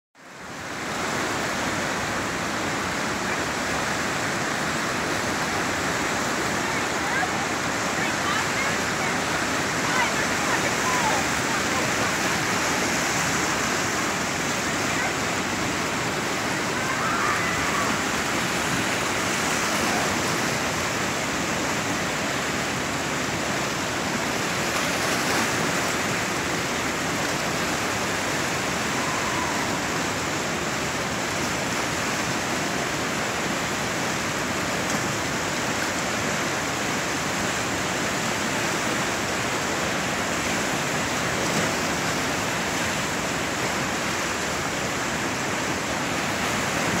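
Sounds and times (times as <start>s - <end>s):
river rapid whitewater rushing: 0.2s - 47.0s.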